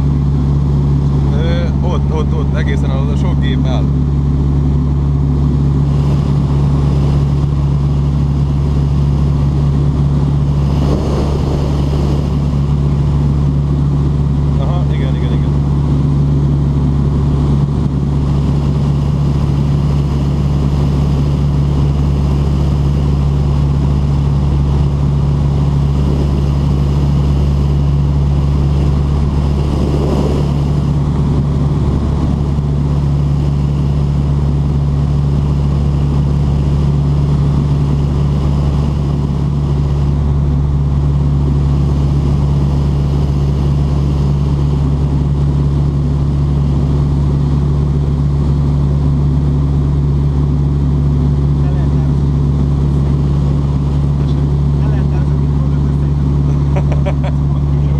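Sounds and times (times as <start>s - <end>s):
aircraft engine and propeller droning: 0.0s - 57.9s.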